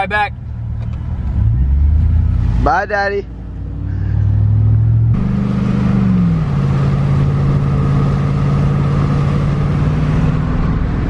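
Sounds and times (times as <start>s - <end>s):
truck engine while driving: 0.2s - 11.0s.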